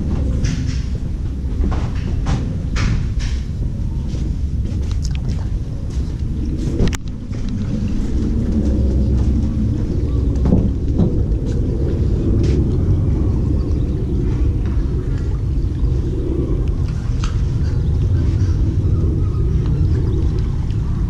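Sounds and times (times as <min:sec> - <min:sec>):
boat motor rumbling: 0:00.0 - 0:21.0
uneven low noise: 0:00.0 - 0:21.0.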